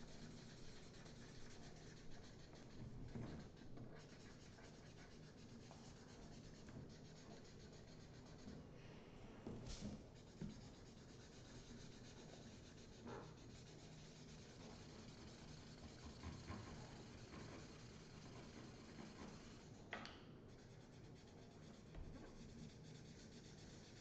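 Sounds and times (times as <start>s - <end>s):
markers scratching on paper: 0.0s - 8.6s, 9.7s - 19.8s, 20.5s - 24.0s.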